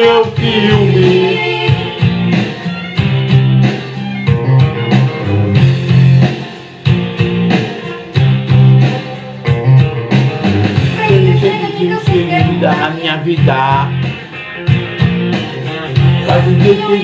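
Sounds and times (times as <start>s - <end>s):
drum beat and bass line: 0.0s - 17.0s
pop music guitar: 0.0s - 17.0s.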